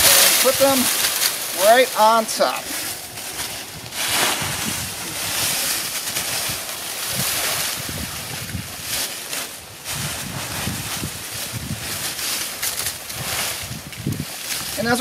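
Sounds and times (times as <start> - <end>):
dry leaves rustling and crunching: 0.0 - 15.0.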